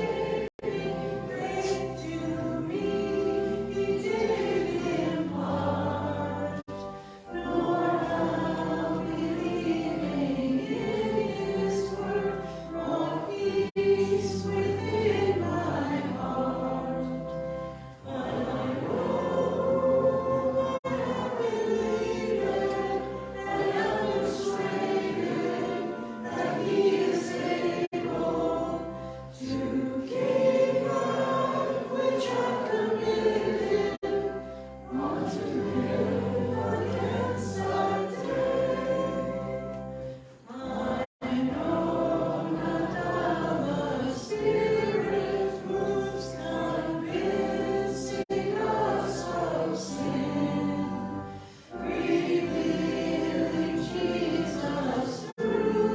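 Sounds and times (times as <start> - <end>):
choir singing: 0.0 - 55.9.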